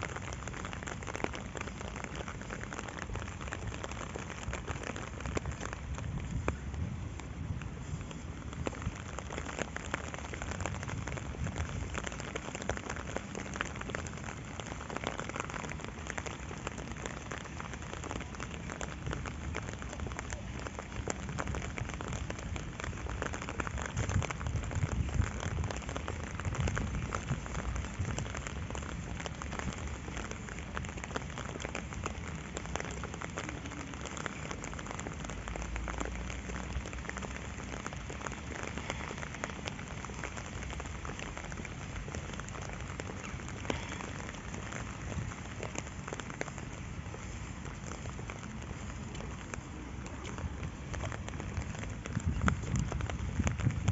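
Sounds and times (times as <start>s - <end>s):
steady rain patter: 0.0s - 53.9s.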